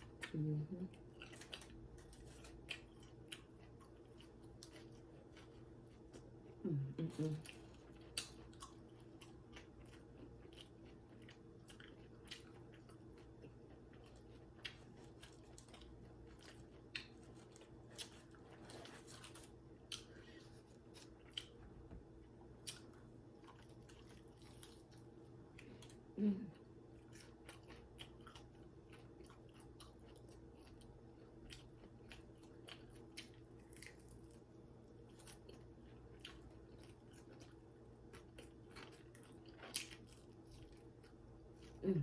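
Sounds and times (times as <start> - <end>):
chewing crunchy food: 0.0 - 42.0
faint steady hum: 0.0 - 42.0.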